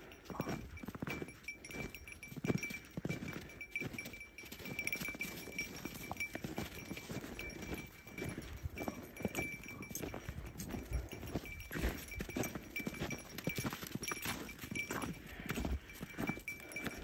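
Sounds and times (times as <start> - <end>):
footsteps crunching in snow: 0.2 - 17.0.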